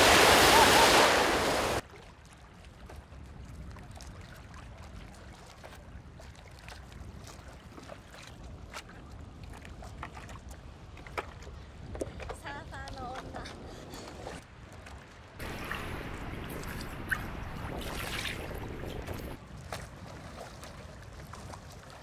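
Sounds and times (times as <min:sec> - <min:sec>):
small waves breaking: 0:00.0 - 0:13.4, 0:14.3 - 0:22.0
faint water lapping: 0:00.0 - 0:22.0
small splashes and ticks: 0:01.8 - 0:13.0, 0:14.6 - 0:22.0.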